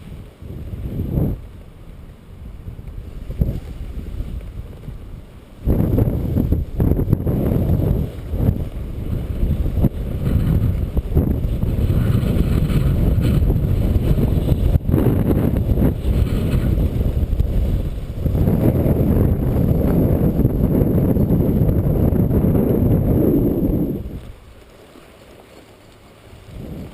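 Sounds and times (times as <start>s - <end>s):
gusty wind buffeting microphone: 0.0s - 24.6s, 26.3s - 26.9s.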